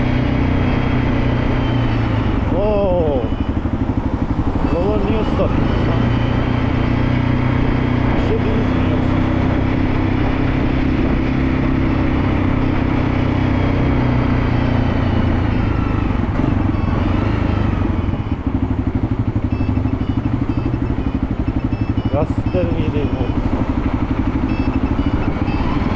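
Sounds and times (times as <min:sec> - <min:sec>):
motorcycle engine: 0:00.0 - 0:25.9.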